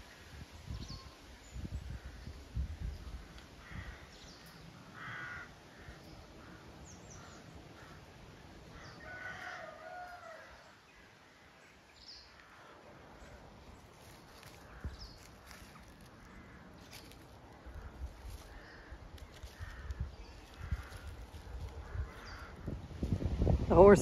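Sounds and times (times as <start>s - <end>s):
distant harsh bird calls: 0.0s - 22.9s
small birds chirping: 0.6s - 9.1s, 10.5s - 23.1s.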